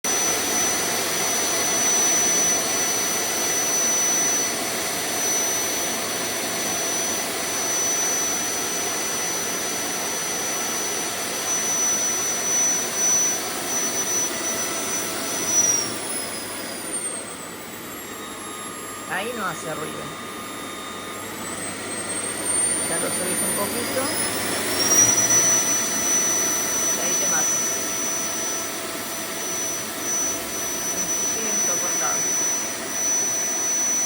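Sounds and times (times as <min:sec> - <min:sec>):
vacuum cleaner whining: 0:00.0 - 0:34.0.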